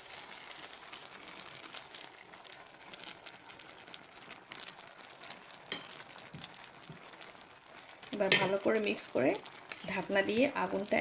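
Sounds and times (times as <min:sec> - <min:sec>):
rice sizzling in a pot: 0:00.0 - 0:11.0.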